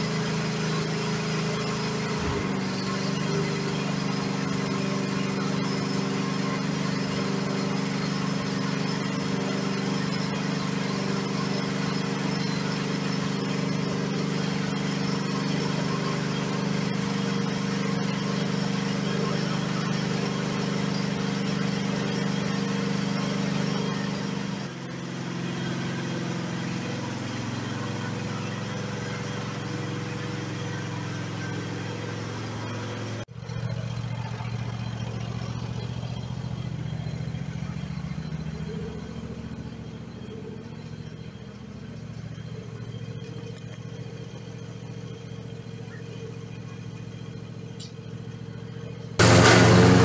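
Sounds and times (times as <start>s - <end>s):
riding mower engine running: 0.0s - 50.0s.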